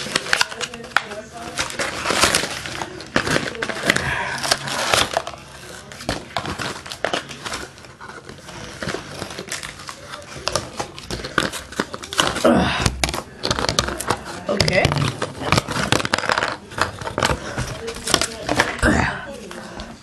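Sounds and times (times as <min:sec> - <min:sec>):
packaging crinkling and crunching: 0:00.0 - 0:19.8.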